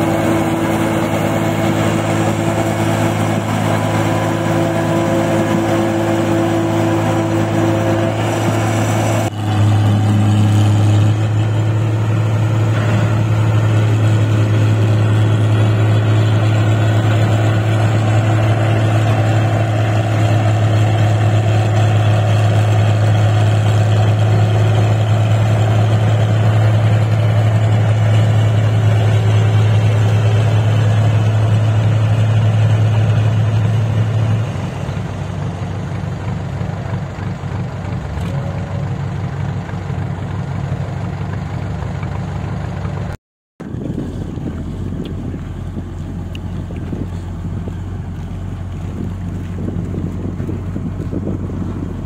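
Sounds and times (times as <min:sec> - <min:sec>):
combine harvester diesel engine: 0:00.0 - 0:52.0.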